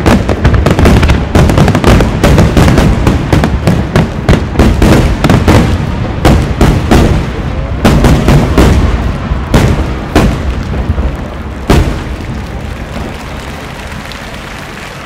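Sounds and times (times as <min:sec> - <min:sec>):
firework shells booming: 0:00.0 - 0:13.3.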